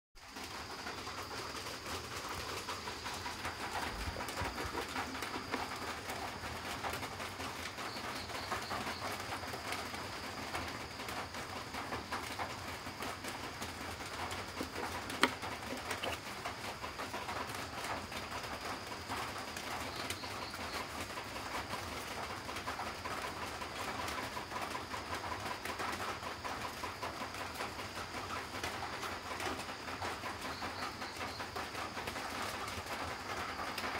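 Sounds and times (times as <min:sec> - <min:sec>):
steady background noise: 0:00.2 - 0:33.9.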